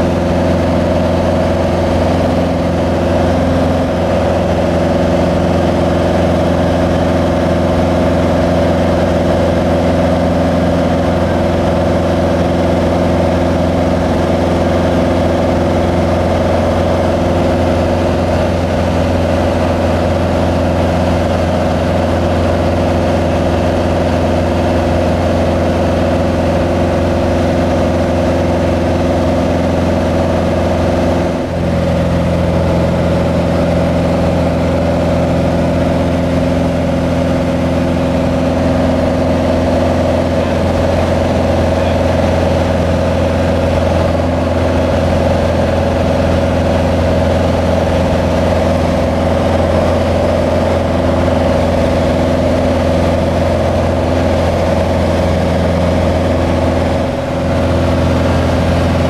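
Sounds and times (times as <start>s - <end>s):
small plane engine droning: 0.0s - 59.0s.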